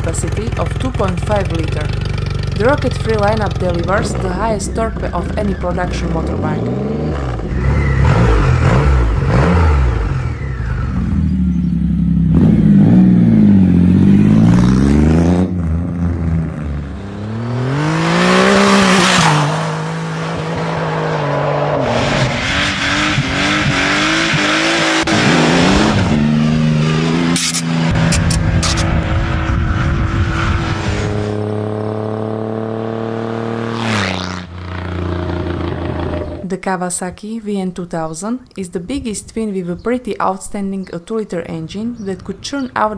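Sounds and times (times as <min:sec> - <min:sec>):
motorcycle engine revving: 0:00.0 - 0:36.5.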